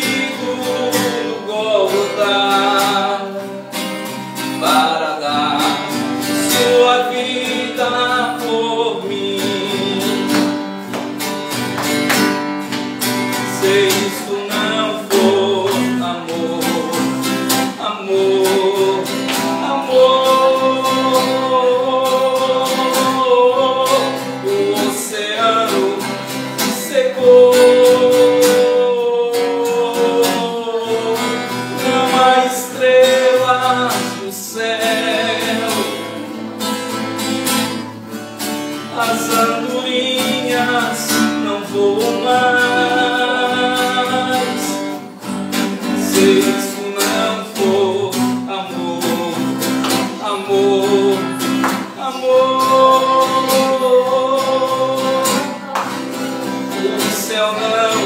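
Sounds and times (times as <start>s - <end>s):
man singing: 0.0s - 11.6s, 12.6s - 58.0s
acoustic guitar strumming: 0.0s - 58.0s.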